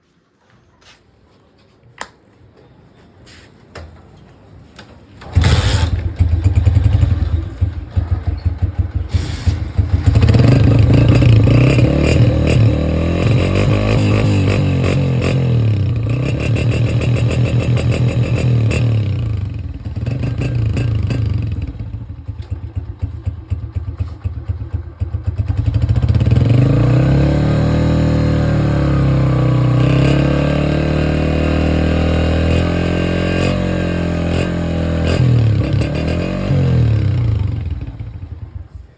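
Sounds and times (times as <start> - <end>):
motorcycle engine revving: 5.2 - 38.7.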